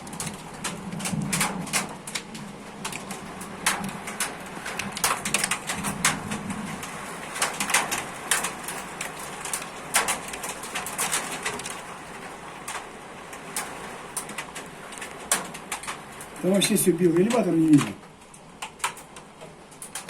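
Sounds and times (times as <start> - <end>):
hailstones hitting: 0.0 - 20.0
heavy rain hiss: 1.4 - 18.2.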